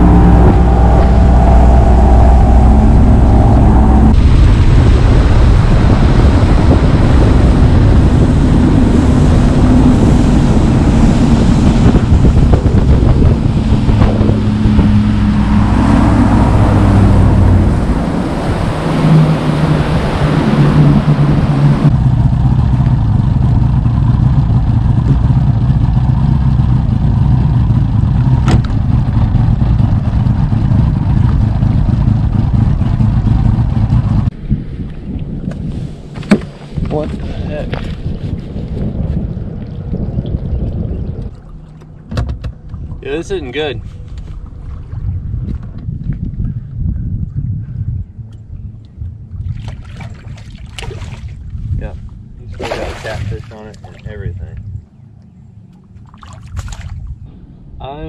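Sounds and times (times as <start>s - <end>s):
outboard motor running at speed: 0.0s - 34.4s, 36.0s - 57.4s.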